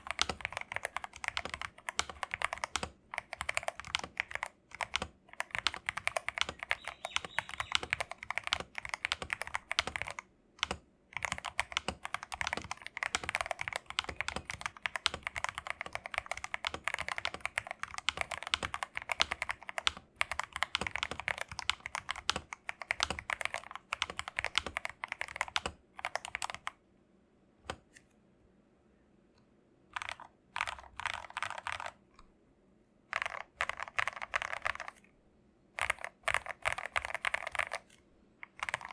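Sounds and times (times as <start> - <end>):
mechanical keyboard typing: 0.0 - 26.8, 29.9 - 32.0, 33.1 - 35.0, 35.8 - 38.9.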